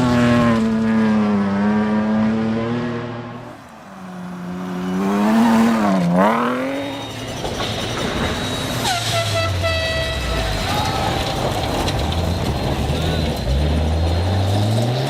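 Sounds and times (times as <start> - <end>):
rally car engine revving: 0.0 - 8.8, 10.1 - 15.0.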